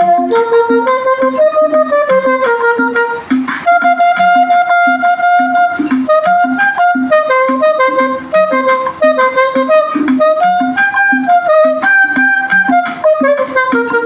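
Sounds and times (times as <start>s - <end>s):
backing track with steady beat: 0.0s - 14.0s
saxophone playing hymn melody: 0.0s - 14.0s.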